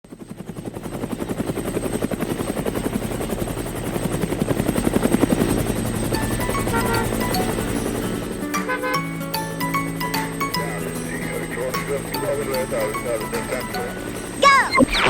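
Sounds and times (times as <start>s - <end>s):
helicopter rotor chopping: 0.1s - 15.0s.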